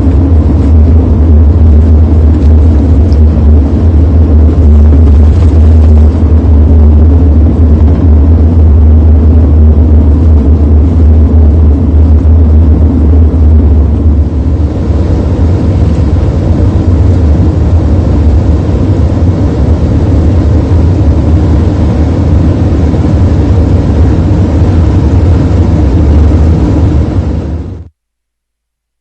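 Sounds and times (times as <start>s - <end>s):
car engine droning: 0.0s - 27.9s.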